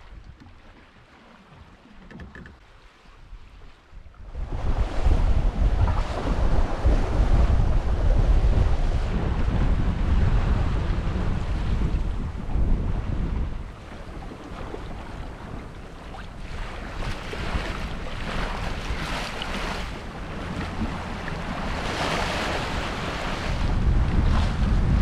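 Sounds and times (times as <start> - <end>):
water rushing along boat hull: 0.0 - 25.0
wind buffeting microphone: 3.2 - 25.0.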